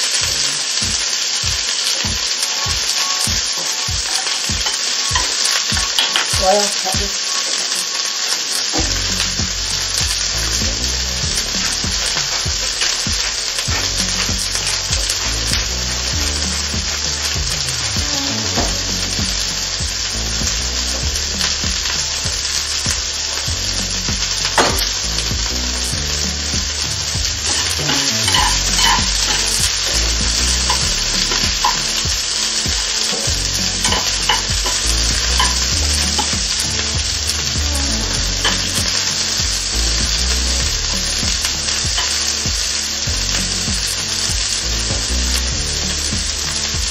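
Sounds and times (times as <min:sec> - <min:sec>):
food sizzling in oil: 0:00.0 - 0:46.9.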